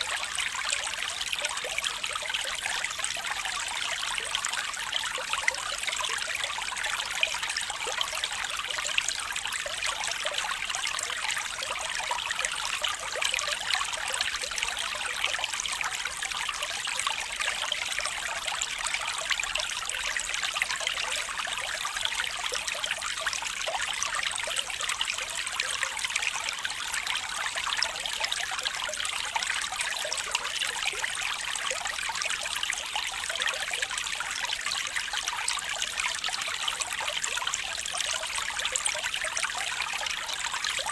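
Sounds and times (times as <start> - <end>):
water flowing and trickling: 0.0 - 40.9.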